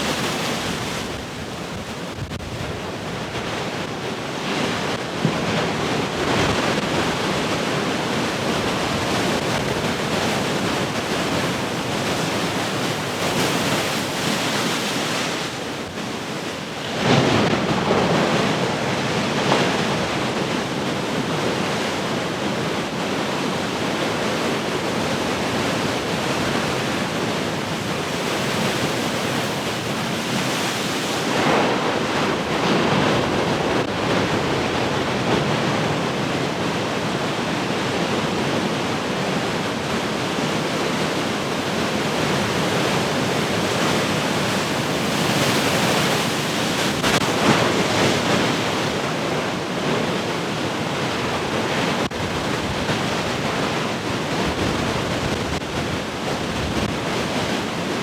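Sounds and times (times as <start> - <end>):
ocean waves crashing: 0.0 - 58.0.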